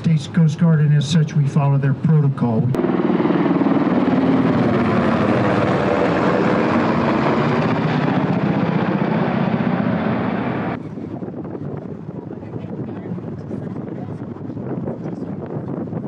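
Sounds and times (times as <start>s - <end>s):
aircraft drone overhead: 0.0s - 16.0s.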